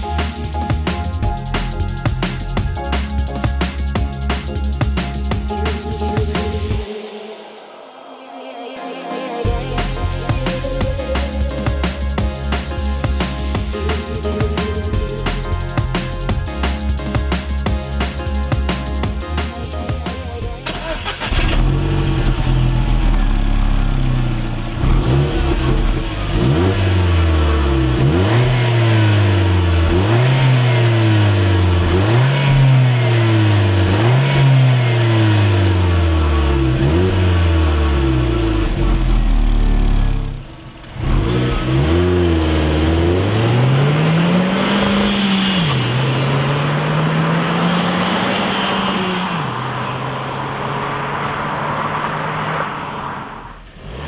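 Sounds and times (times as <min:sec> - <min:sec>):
car engine revving: 0:09.4 - 0:54.0.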